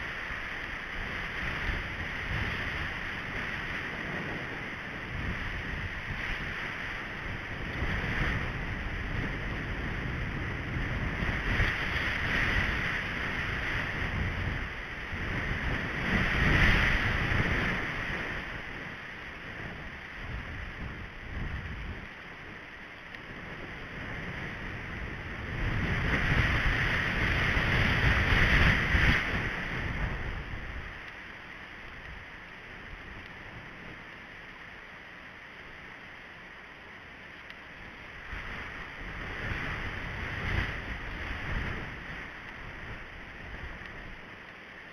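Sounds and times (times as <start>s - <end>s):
wind buffeting microphone: 0.0s - 22.2s, 23.2s - 31.1s, 38.1s - 44.3s.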